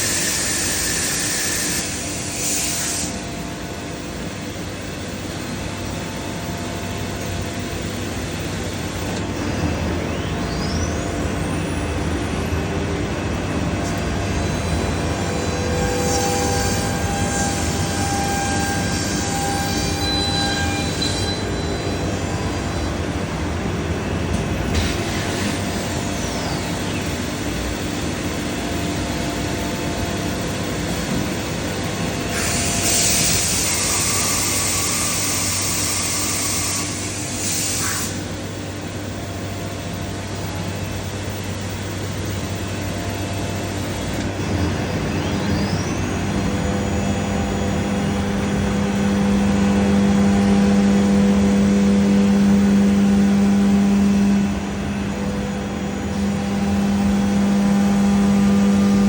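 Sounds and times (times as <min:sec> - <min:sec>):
cnc router drone: 0:00.0 - 0:59.0
whining tones: 0:04.0 - 0:32.3, 0:38.1 - 0:59.0.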